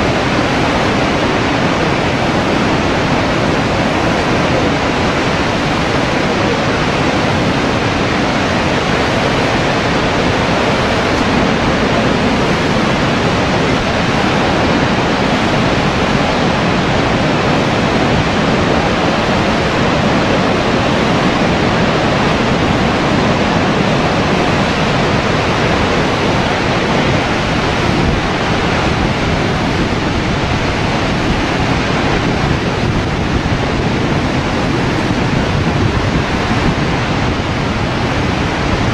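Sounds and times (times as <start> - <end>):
waterfall rushing: 0.0 - 38.9
wind buffeting microphone: 0.0 - 38.9.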